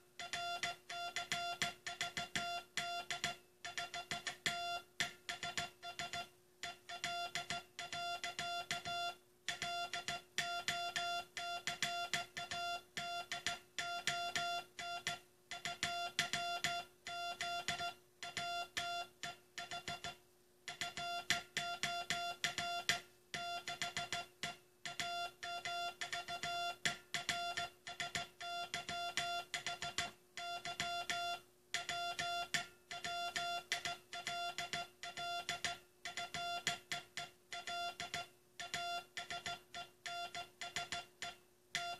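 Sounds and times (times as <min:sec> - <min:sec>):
faint steady hum: 0:00.0 - 0:41.9
morse code tone: 0:00.2 - 0:24.3, 0:24.9 - 0:41.9.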